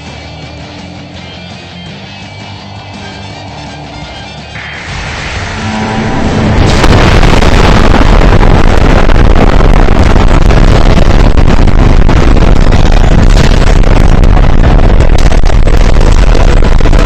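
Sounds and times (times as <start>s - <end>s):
loud distorted rushing noise: 0.0s - 17.0s.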